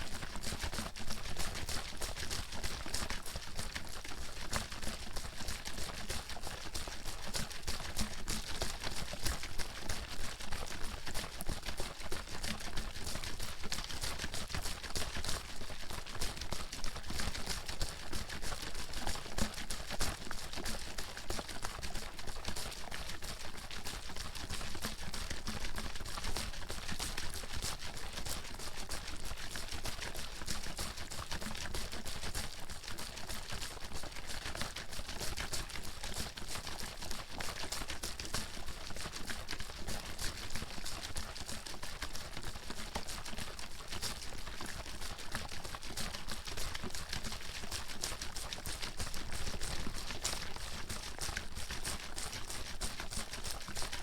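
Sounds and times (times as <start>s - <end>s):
water sloshing in a shaken bottle: 0.0s - 54.0s.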